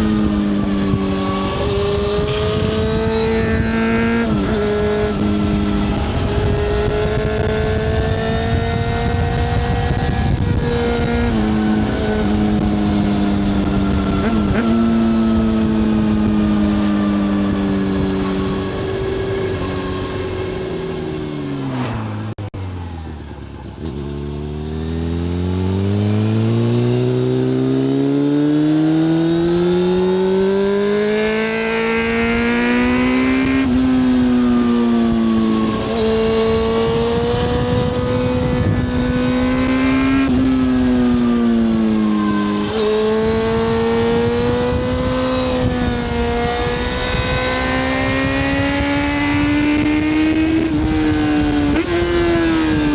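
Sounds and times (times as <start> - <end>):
wind rush: 0.0 - 22.5, 29.4 - 52.9
motorcycle engine revving: 0.0 - 52.9.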